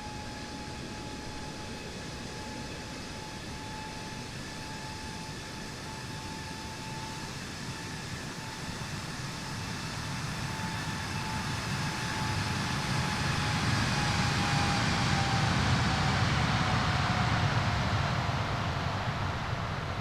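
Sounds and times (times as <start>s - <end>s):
jet engines roaring with whine: 0.0s - 20.0s.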